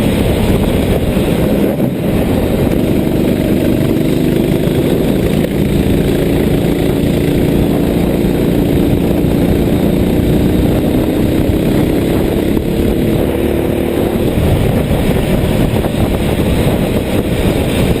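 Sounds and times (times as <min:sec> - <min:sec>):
road and rain noise: 0:00.0 - 0:18.0
vehicle engine running: 0:00.0 - 0:18.0.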